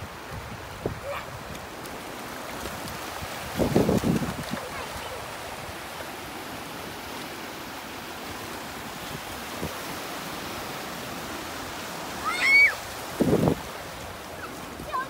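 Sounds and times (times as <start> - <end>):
small waves washing on beach: 0.0 - 15.0.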